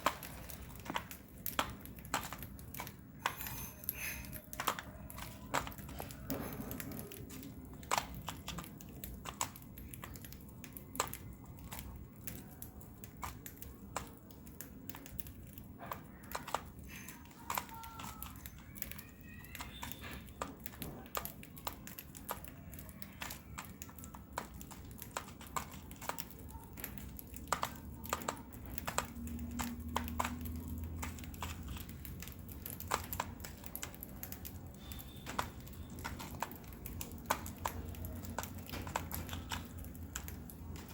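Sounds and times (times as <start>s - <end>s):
bird cracking seeds: 0.0s - 40.9s.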